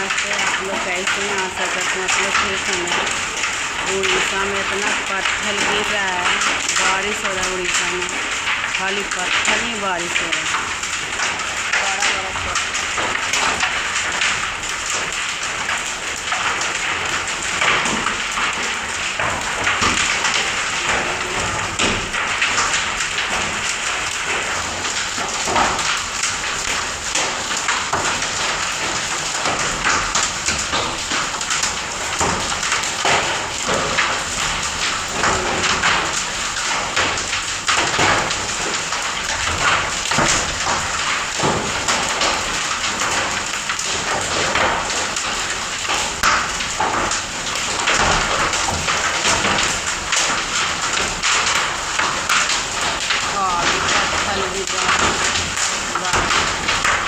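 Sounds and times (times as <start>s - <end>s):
hailstones striking hard surfaces: 0.0s - 57.0s
heavy rain hissing: 0.0s - 57.0s.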